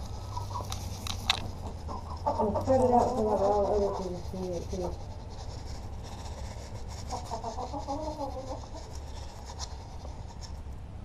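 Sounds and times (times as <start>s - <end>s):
chickens clucking: 0.0s - 10.1s.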